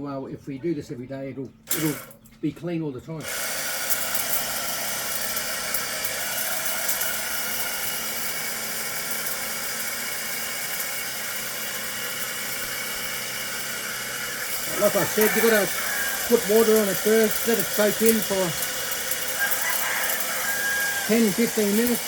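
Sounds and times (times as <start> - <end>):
pressure washer motor and pump whine: 1.7 - 2.1, 3.2 - 22.0
water jet spraying: 1.7 - 2.1, 3.2 - 22.0.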